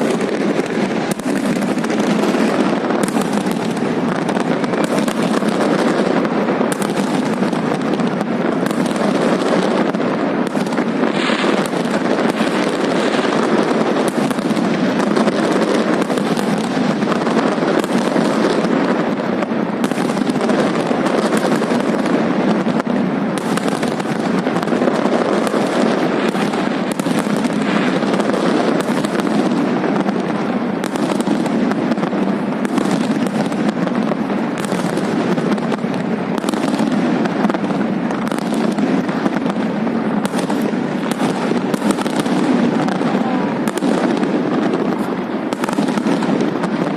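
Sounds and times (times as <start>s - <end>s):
fireworks banging: 0.0s - 46.9s.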